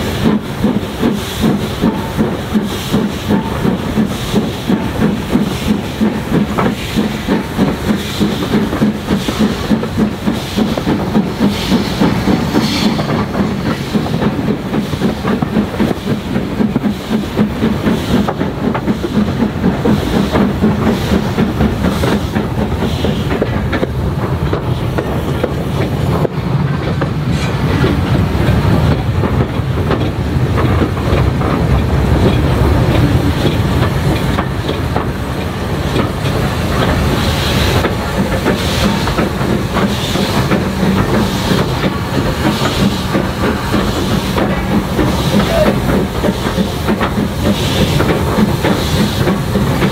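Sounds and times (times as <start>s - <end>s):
train clattering on rails: 0.0s - 49.9s.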